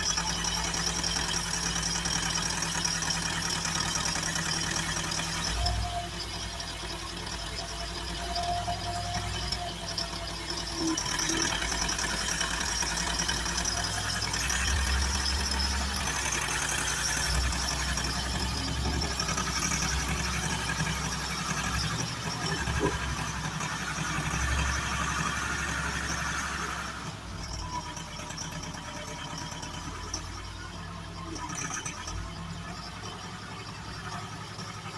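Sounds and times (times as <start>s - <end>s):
backhoe loader engine running: 0.0s - 34.9s.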